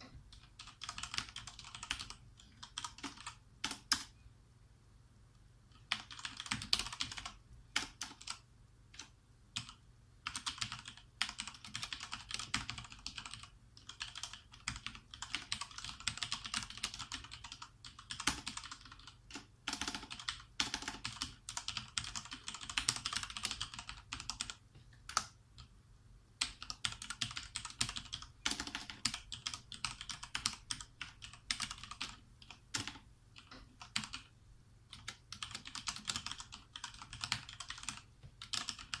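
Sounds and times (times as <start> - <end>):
mechanical keyboard typing: 0.3 - 4.1, 5.7 - 25.7, 26.4 - 34.3, 34.9 - 39.0.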